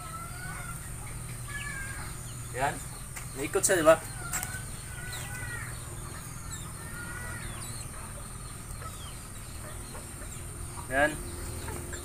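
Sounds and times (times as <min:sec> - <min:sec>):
birds chirping faintly: 0:00.0 - 0:12.0
low background hum: 0:00.0 - 0:12.0.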